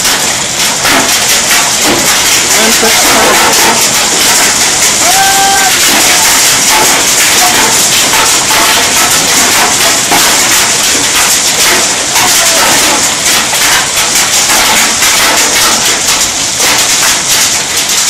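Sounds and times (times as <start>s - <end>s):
heavy rain and hail: 0.0s - 18.0s.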